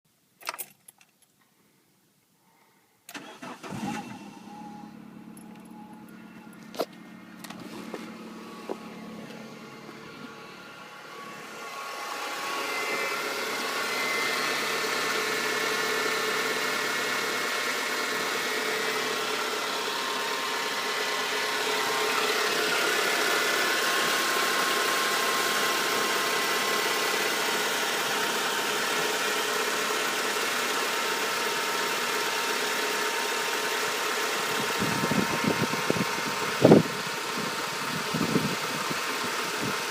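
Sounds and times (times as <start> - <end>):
petrol engine running: 3.1 - 39.9.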